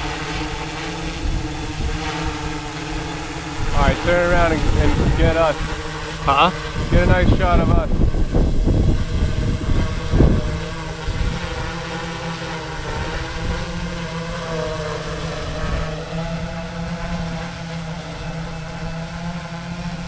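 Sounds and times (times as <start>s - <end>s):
drone motors humming: 0.0s - 20.0s
wind rumble on microphone: 0.0s - 20.0s.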